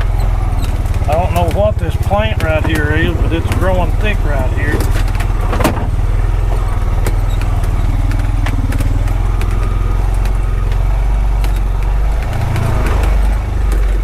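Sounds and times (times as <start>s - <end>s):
engine running at low speed: 0.0s - 14.0s
sharp clicks and knocks: 0.0s - 14.0s.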